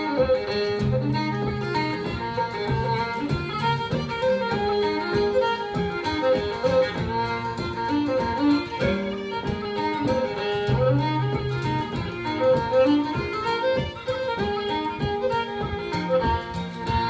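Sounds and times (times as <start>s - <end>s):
fiddle playing a folk tune: 0.0s - 17.0s
strummed acoustic guitar: 0.0s - 17.0s.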